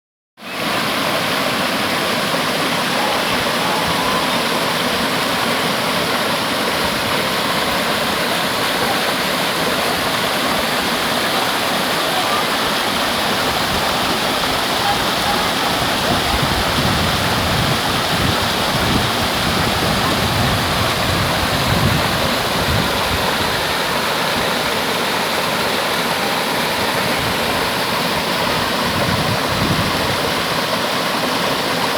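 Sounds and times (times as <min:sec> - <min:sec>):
waterfall rushing: 0:00.4 - 0:31.9.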